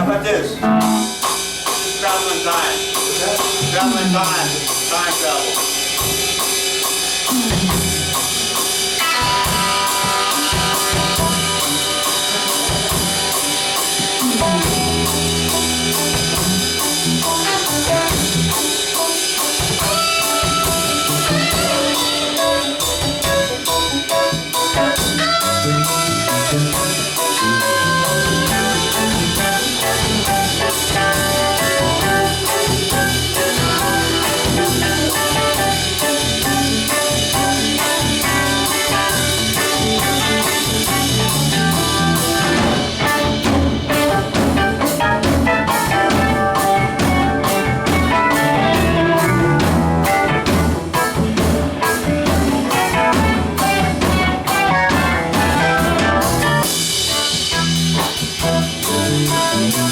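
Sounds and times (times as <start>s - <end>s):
melodic lead line: 0.0s - 2.9s, 7.8s - 59.9s
bass line: 0.0s - 59.9s
drum kit beat: 0.0s - 59.9s.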